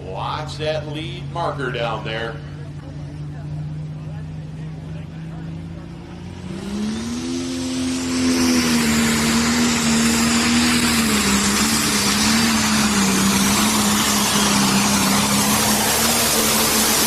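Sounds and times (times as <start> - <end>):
tractor diesel engine at high revs: 0.0 - 17.0
turbo and exhaust hiss: 0.0 - 17.0.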